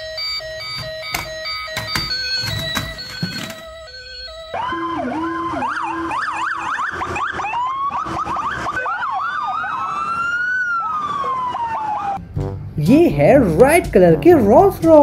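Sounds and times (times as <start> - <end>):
police sirens wailing and yelping: 0.0 - 12.2.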